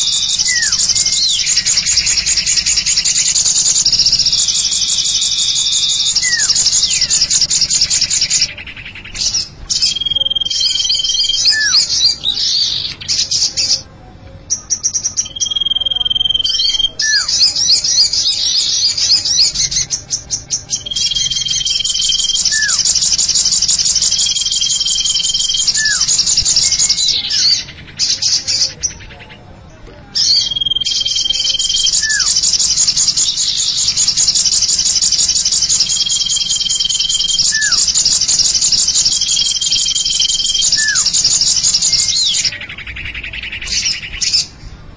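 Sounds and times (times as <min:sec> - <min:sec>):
bird whistle: 0:00.0 - 0:13.8, 0:14.6 - 0:29.1, 0:30.2 - 0:44.6
bird chattering trills: 0:00.0 - 0:44.9.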